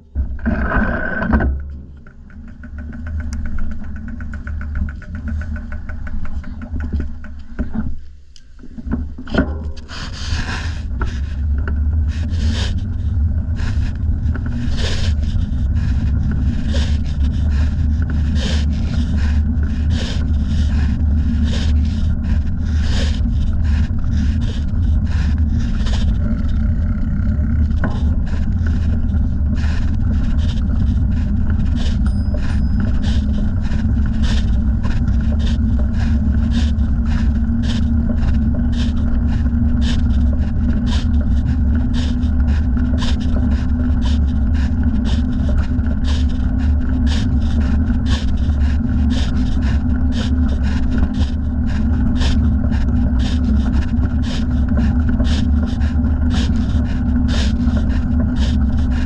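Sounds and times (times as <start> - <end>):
wind and bicycle tyres rumbling: 0.0 - 59.0
light rhythmic ticking: 11.0 - 59.0.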